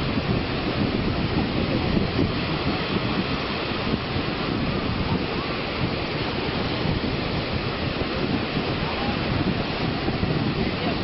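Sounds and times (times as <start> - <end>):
sea surf rushing: 0.0 - 11.0
wind buffeting microphone: 0.0 - 11.0.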